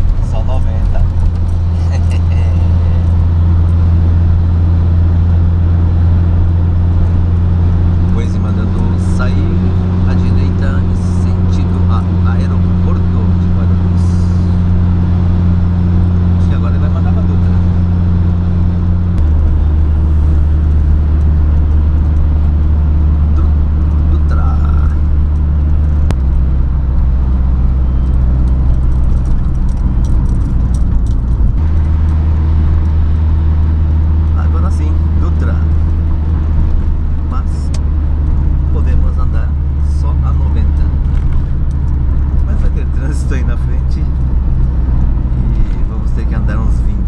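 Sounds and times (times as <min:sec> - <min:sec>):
low engine drone: 0:00.0 - 0:47.0
road noise inside vehicle: 0:00.0 - 0:47.0.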